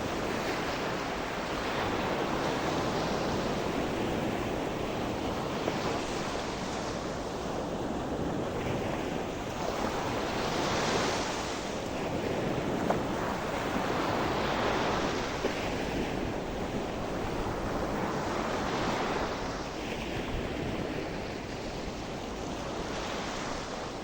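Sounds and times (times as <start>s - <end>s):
waves breaking on shore: 0.0s - 24.0s.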